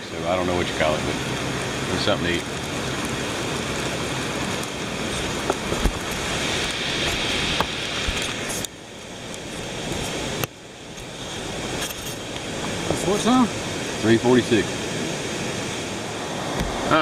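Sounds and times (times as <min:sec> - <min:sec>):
water rushing from dam: 0:00.0 - 0:17.0.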